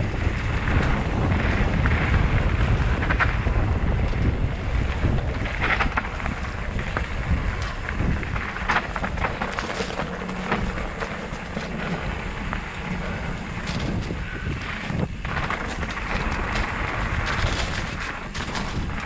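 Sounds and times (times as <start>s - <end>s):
bike clattering over rough ground: 0.0s - 19.0s
bike tyres crunching on dirt: 0.0s - 19.0s
wind rumbling on microphone: 0.0s - 19.0s.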